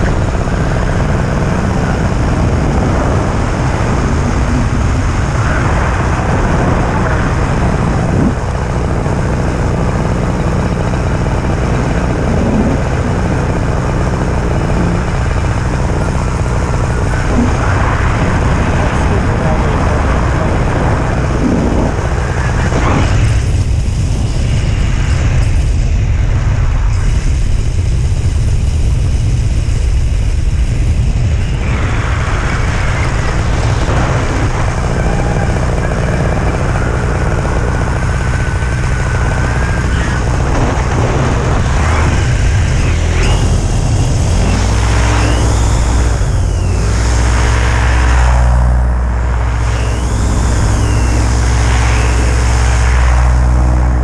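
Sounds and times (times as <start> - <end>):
two-stroke engine running: 0.0 - 54.0
wind rushing over microphone: 0.0 - 54.0.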